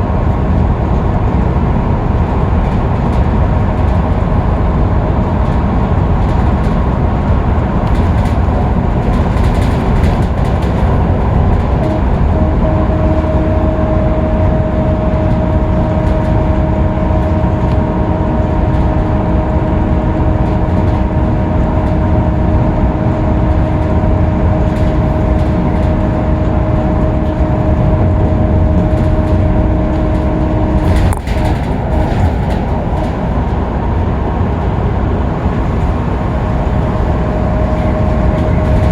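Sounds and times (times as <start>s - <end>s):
bus diesel engine drone: 0.0s - 38.9s
road and tyre noise: 0.0s - 38.9s
steady whine: 0.0s - 38.9s.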